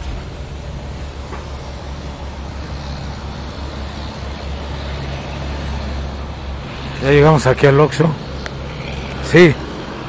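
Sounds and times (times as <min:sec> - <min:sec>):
traffic noise: 0:00.0 - 0:10.0
vehicle engine humming: 0:00.0 - 0:10.0.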